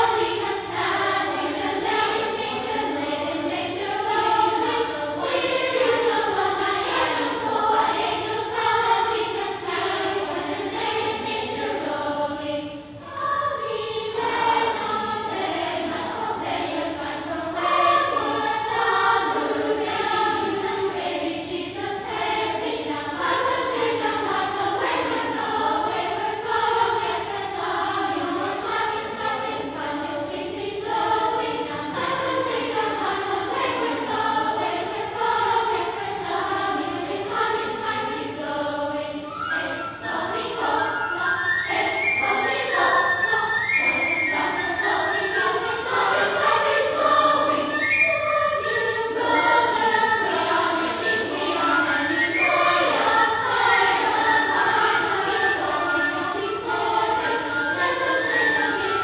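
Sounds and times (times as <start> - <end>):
children's choir singing: 0.0 - 59.0.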